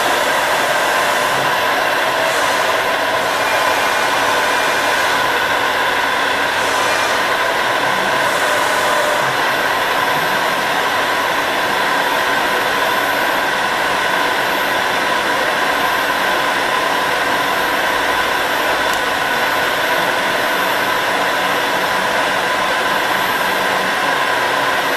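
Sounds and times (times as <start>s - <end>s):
workshop machinery whirring: 0.0s - 24.9s.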